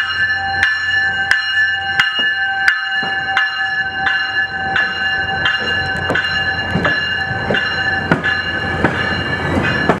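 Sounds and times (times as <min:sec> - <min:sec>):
bell ringing: 0:00.0 - 0:10.0
train wheels clicking over rail joints: 0:02.0 - 0:10.0.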